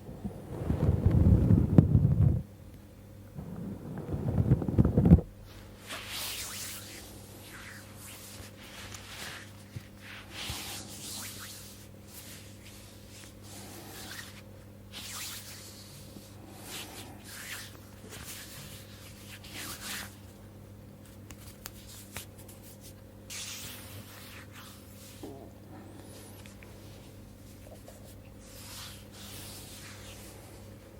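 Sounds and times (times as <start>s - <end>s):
steady low hum: 0.0s - 30.9s
hand strokes over oiled skin: 3.4s - 20.3s, 21.7s - 25.2s, 26.0s - 30.7s.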